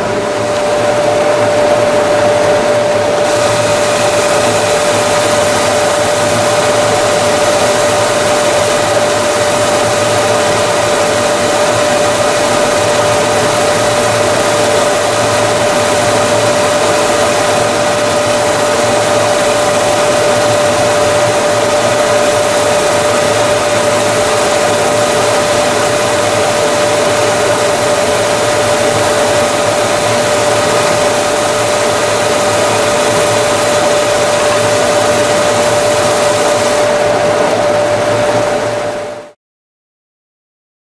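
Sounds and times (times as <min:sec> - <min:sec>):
sanding machine whine: 0:00.0 - 0:39.3.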